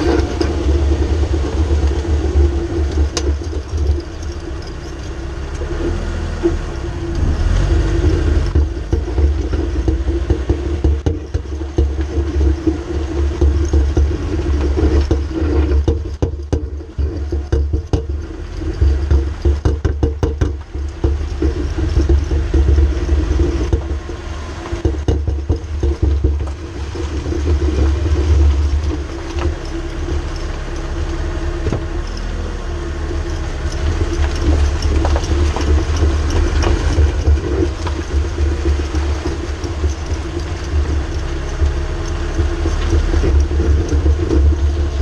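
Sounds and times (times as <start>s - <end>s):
drivetrain and road rumble: 0.0s - 45.0s
wavering driveshaft hum: 0.0s - 45.0s.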